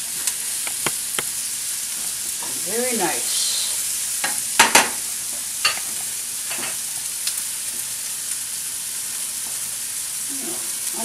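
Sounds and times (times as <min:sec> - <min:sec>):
onions sizzling in a skillet: 0:00.0 - 0:11.0.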